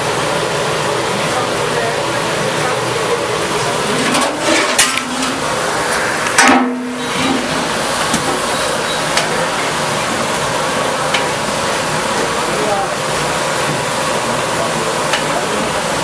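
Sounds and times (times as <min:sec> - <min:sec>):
chicken deep-frying in hot oil: 0:00.0 - 0:16.0.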